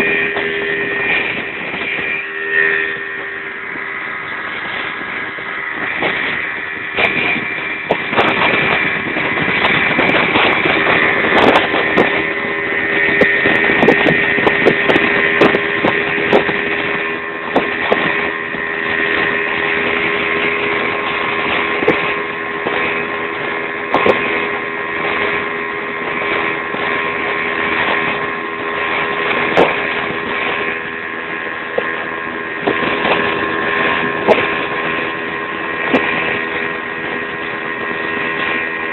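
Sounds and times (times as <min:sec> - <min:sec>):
speedboat engine droning: 0:00.0 - 0:38.9.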